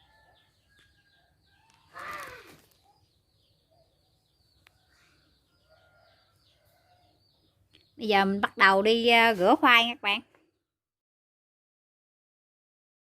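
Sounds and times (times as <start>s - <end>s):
small birds chirping faintly: 0.0s - 10.8s.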